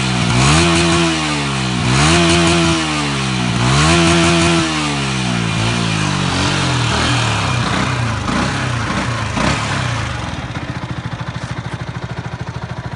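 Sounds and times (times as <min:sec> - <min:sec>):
motorcycle engine revving and idling: 0:00.0 - 0:12.9.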